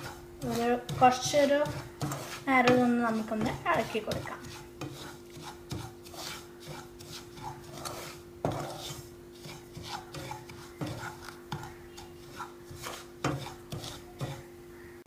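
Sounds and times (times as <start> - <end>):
spatula knocking against pan: 0.0 - 14.5
spatula scraping frying pan: 0.0 - 14.9.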